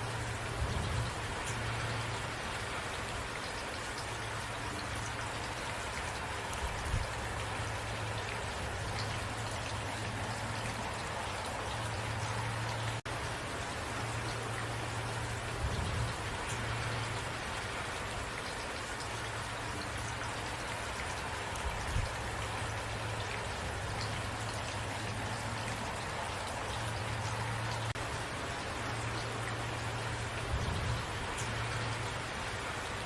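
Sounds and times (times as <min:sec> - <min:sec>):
steady rainfall: 0:00.0 - 0:33.0
water drips: 0:00.0 - 0:33.0.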